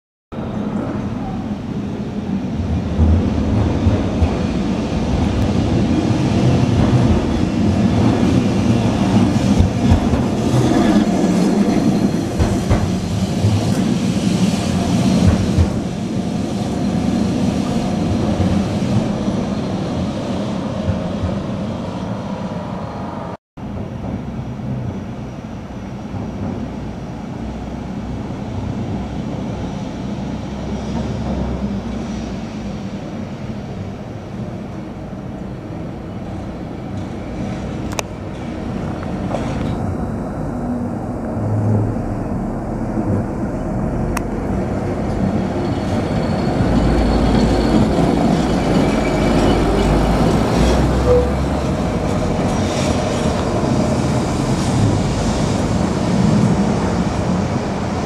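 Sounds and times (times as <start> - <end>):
tram rumbling on rails: 0.3 - 58.0.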